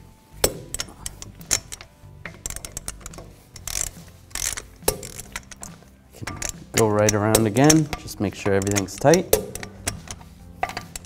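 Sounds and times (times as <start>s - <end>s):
background music: 0.0s - 11.0s
torque wrench ratcheting: 0.4s - 11.0s.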